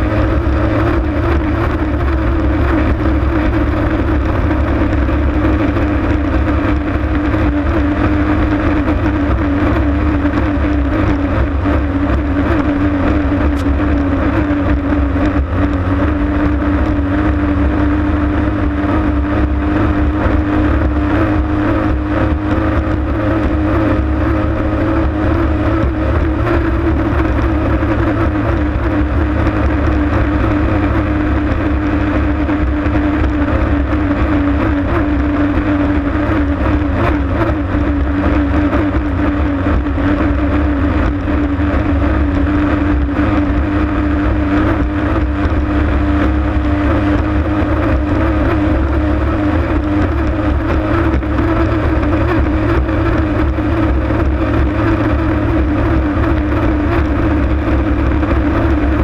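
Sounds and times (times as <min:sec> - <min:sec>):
boat engine running hard: 0:00.0 - 0:59.0
constant low rush: 0:00.0 - 0:59.0.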